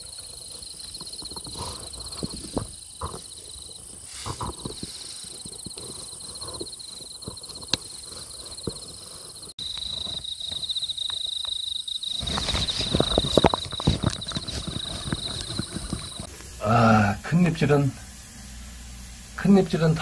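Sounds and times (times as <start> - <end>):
night insects trilling: 0.0 - 20.0.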